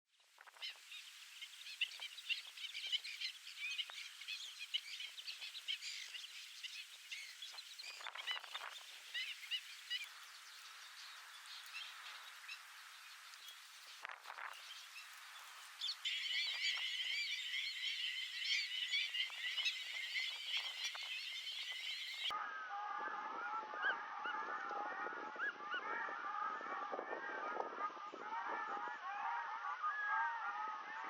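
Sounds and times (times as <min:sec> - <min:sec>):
flock of birds chirping: 0:00.3 - 0:22.4, 0:23.0 - 0:31.0.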